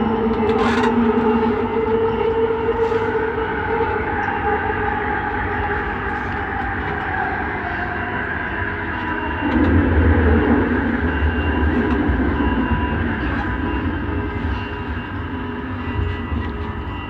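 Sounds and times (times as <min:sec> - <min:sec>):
metro car running noise: 0:00.0 - 0:17.0.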